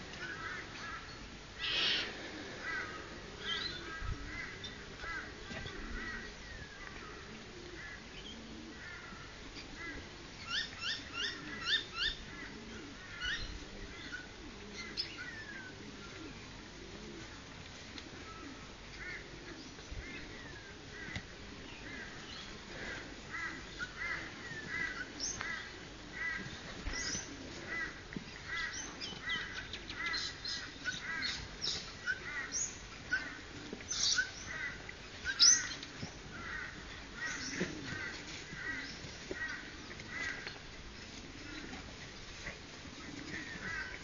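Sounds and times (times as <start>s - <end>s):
birds calling: 0.0s - 17.4s, 18.0s - 44.0s.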